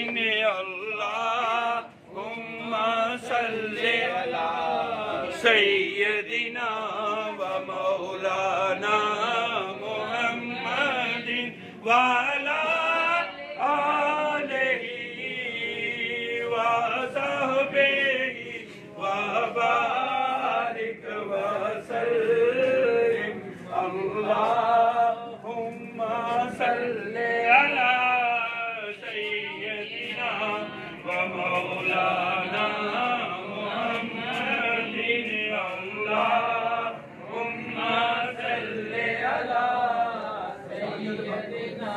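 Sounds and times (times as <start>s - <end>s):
men chanting together: 0.0s - 41.9s.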